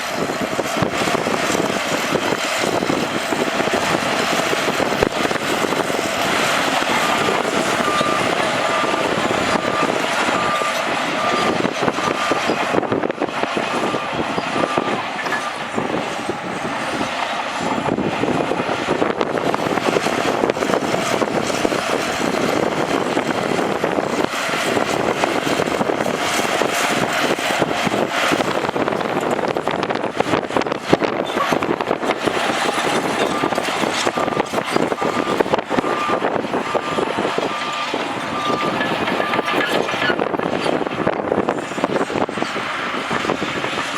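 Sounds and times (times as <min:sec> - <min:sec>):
bulldozer engine under load: 0:00.0 - 0:43.9
rock and dirt grinding: 0:00.0 - 0:43.9
track clatter: 0:00.0 - 0:43.9
reversing alarm beeping: 0:00.1 - 0:41.7.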